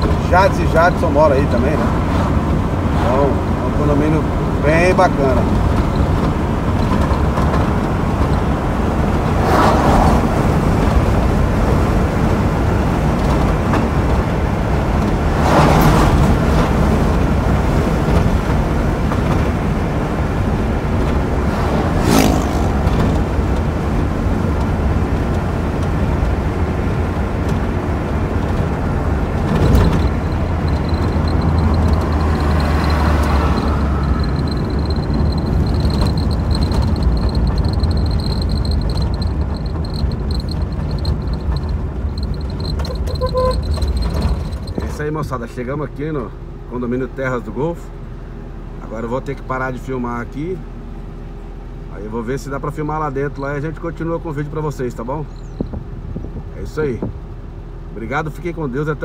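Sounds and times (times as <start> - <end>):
engine and tyre rumble: 0.0 - 59.0
vehicles passing by: 0.0 - 59.0.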